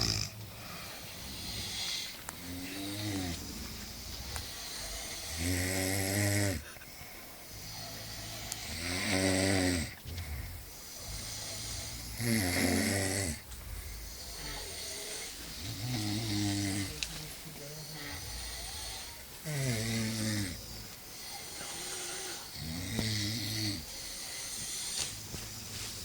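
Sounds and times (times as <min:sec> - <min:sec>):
person snoring: 0:00.0 - 0:06.7, 0:07.4 - 0:25.4
quiet breathing: 0:00.0 - 0:26.0.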